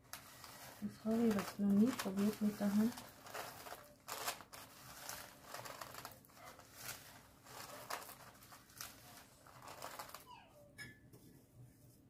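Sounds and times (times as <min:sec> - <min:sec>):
chocolate shavings rustling: 0:00.0 - 0:10.3.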